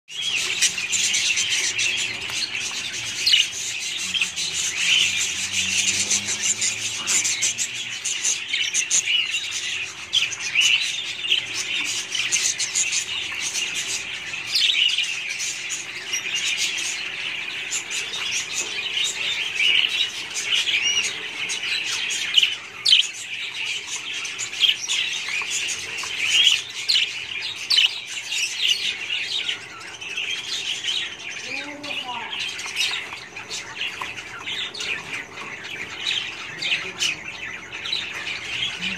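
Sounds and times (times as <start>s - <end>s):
budgerigars chirping: 0.1s - 38.9s.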